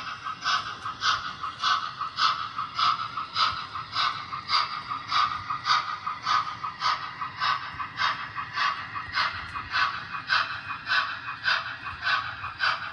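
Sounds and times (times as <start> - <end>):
model steam locomotive chuffing: 0.0 - 12.9.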